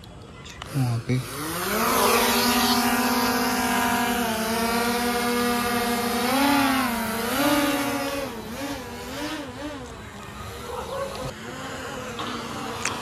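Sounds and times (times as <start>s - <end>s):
drone motors and propellers humming: 0.0s - 13.0s.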